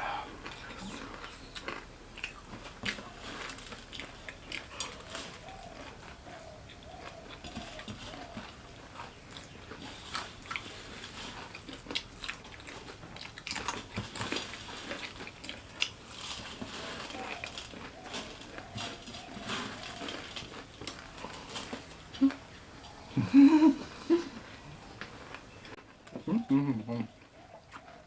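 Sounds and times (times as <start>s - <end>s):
chewing crunchy fried snacks: 0.3s - 22.6s, 24.4s - 28.0s.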